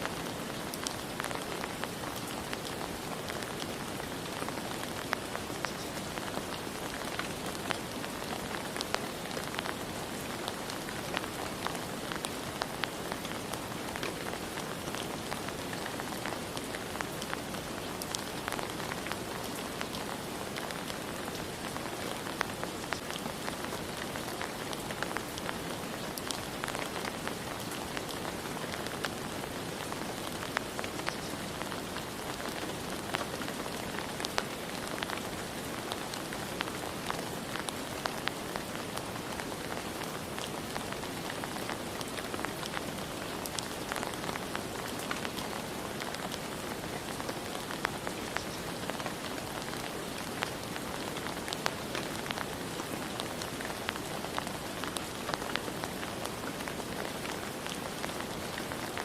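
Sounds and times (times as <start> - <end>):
steady rain hiss: 0.0 - 59.0
raindrops ticking: 0.1 - 56.2.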